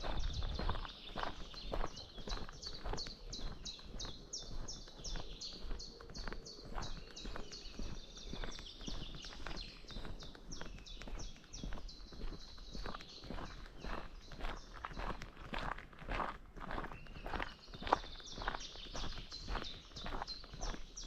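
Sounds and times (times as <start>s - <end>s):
bird chirping: 0.0s - 15.2s, 16.8s - 21.0s
footsteps crunching: 0.0s - 21.0s.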